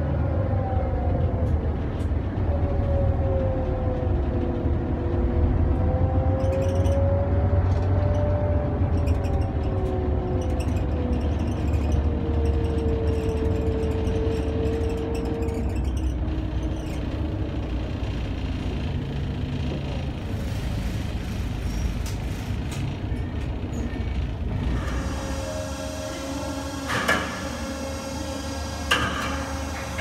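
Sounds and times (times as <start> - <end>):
bus engine low rumble: 0.0 - 30.0
gearbox whine: 1.6 - 20.3, 22.8 - 30.0.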